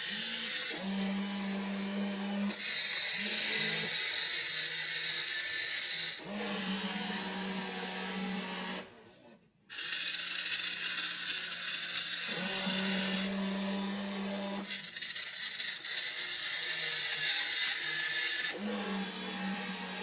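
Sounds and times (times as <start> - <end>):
small electric motors whirring: 0.0 - 20.0.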